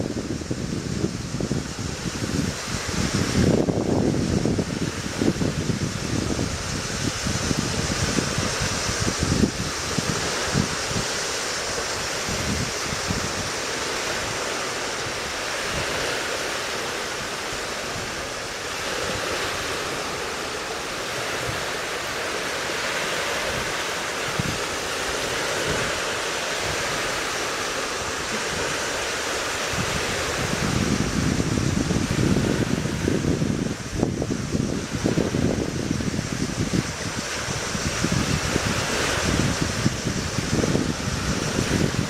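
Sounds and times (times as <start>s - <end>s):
wind gusts buffeting microphone: 0.0s - 42.0s.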